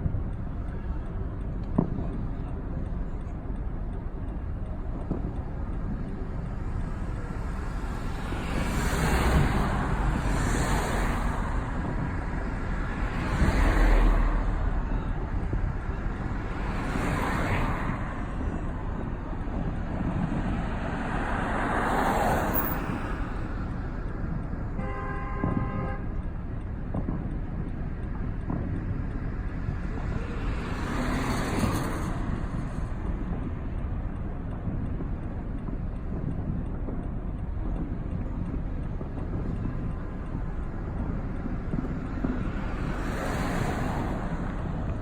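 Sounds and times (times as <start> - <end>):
vehicles passing by: 0.0 - 45.0.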